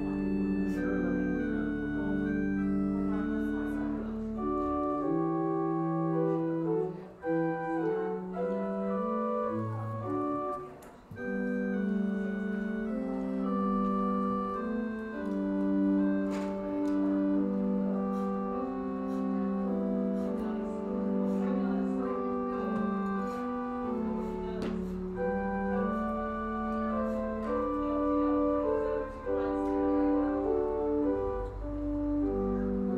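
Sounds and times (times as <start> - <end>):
church organ playing chords: 0.0 - 32.9.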